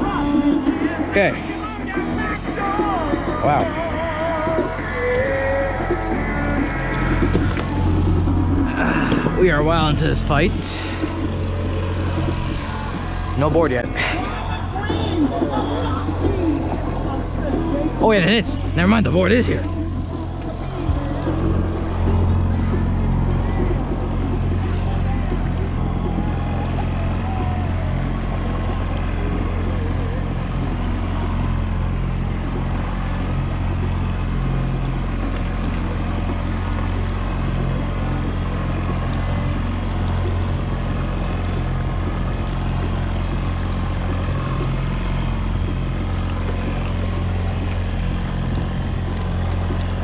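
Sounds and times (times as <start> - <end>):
boat engine humming: 0.0 - 50.0
water noise: 0.0 - 50.0
wind: 0.0 - 50.0.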